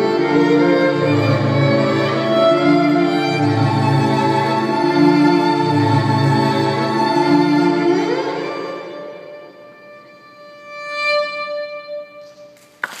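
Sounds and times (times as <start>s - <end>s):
violin playing held notes: 0.0s - 12.8s.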